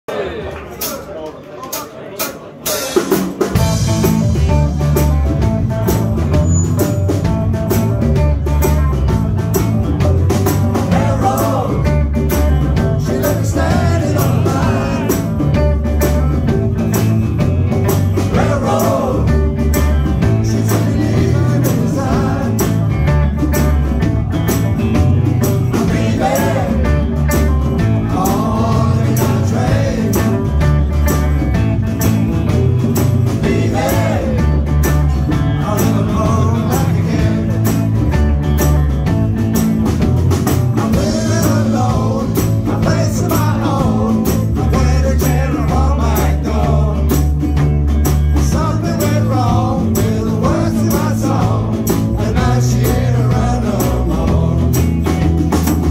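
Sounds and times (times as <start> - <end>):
drums with steady beat: 1.7 - 55.9
electric guitar: 3.4 - 55.9.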